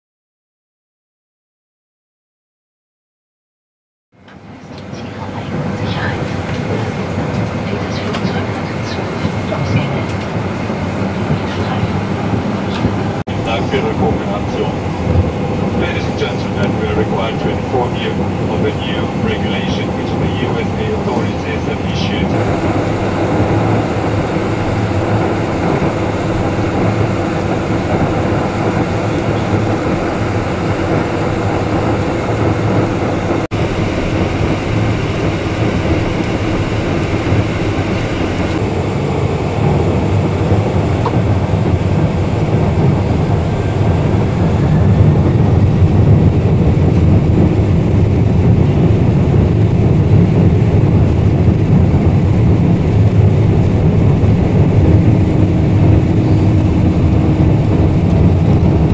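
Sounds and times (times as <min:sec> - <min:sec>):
jet engine cabin rumble: 0:04.2 - 0:58.9.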